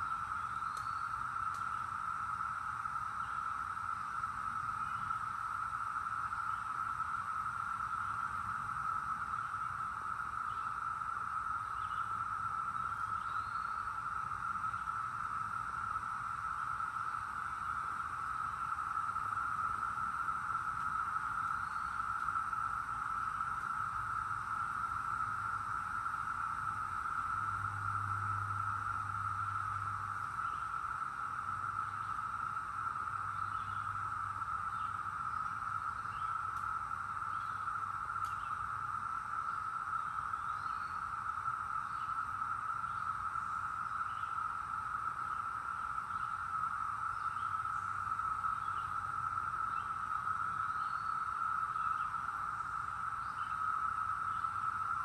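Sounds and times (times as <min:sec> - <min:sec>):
cicada chorus drone: 0:00.0 - 0:55.0.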